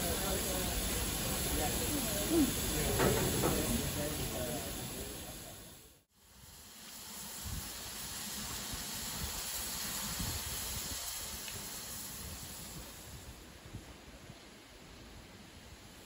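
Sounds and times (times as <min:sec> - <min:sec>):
steam locomotive hissing: 0:00.0 - 0:13.9.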